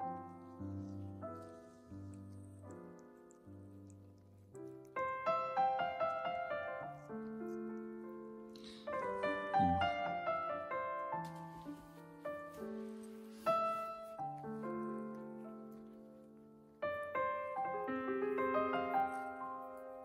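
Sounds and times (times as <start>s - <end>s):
soft piano chords: 0.0s - 20.0s.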